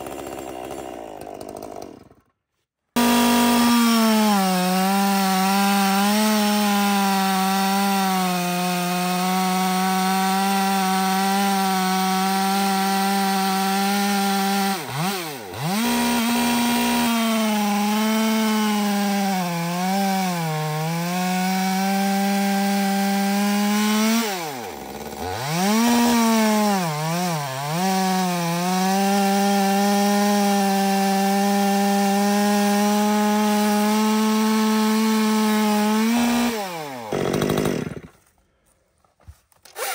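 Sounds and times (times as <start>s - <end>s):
chainsaw cutting through log: 0.0s - 38.7s, 39.6s - 39.9s.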